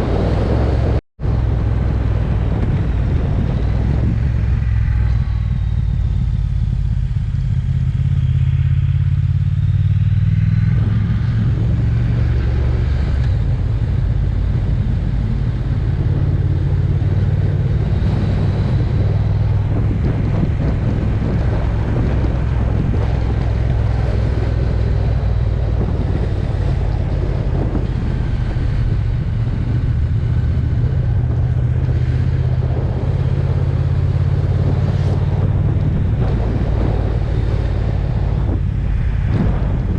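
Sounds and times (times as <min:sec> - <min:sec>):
motorcycle engine droning: 0:00.0 - 0:39.9
road and wind noise: 0:00.0 - 0:39.9.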